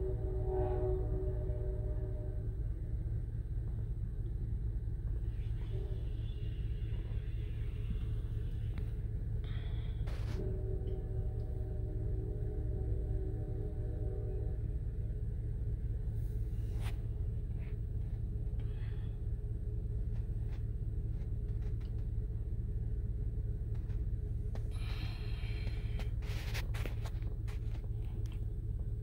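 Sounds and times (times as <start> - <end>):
passing train rumble: 0.0 - 29.0.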